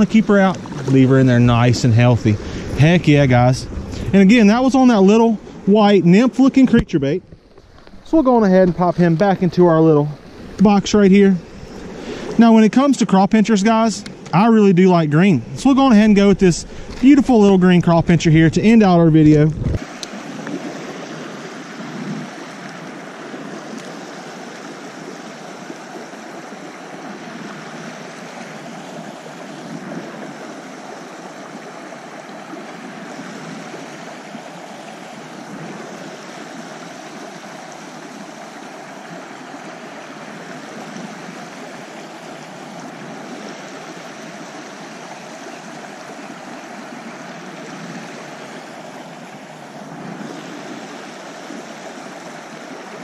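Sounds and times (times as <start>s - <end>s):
creek flowing over stones: 0.0s - 53.0s.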